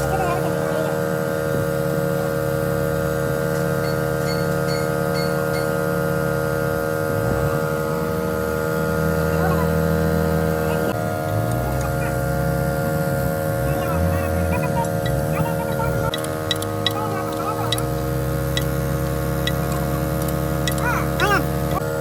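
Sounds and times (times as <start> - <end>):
low drone: 0.0 - 22.0
machine hum: 0.0 - 22.0.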